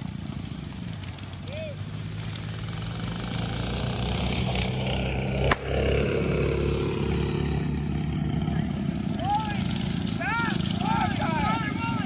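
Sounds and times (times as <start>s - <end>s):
mini bike engines running: 0.0s - 12.0s.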